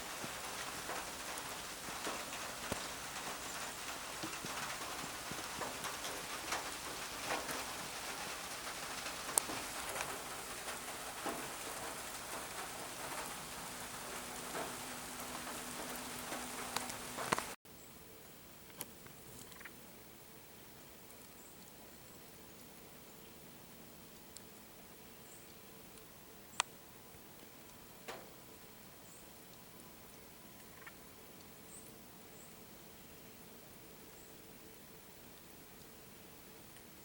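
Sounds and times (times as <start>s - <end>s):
steady rain falling: 0.0s - 17.6s, 19.9s - 37.0s.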